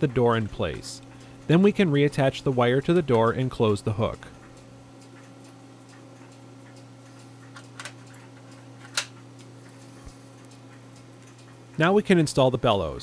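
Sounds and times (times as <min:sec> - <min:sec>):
clock ticking: 0:00.0 - 0:07.8, 0:09.4 - 0:12.9
steady low hum: 0:00.0 - 0:13.0.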